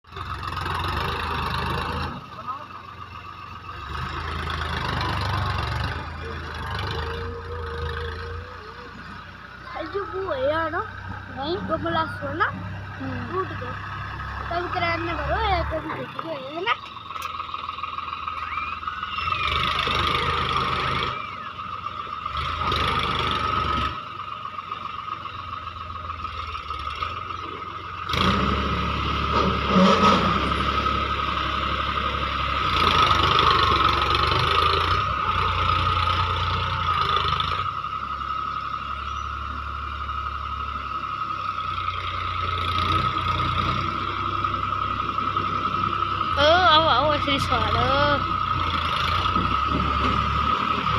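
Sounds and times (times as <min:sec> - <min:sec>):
tractor engine revving: 0:00.0 - 0:50.9.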